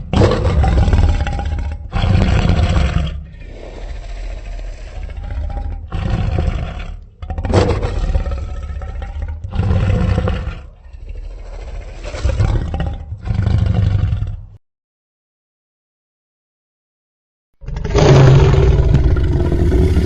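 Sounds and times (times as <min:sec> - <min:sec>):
dinosaur growling roars: 0:00.0 - 0:14.5, 0:17.6 - 0:20.0.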